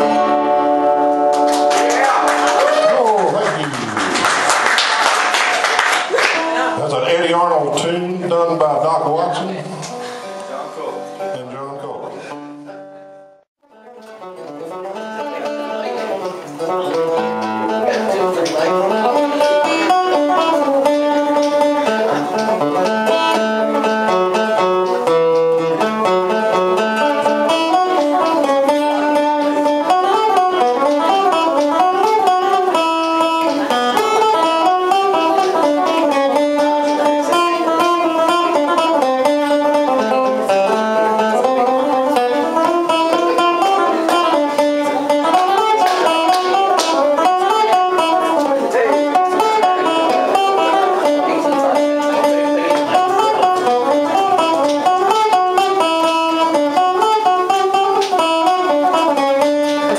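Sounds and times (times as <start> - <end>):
acoustic guitar picking: 0.0 - 2.3, 6.3 - 59.9.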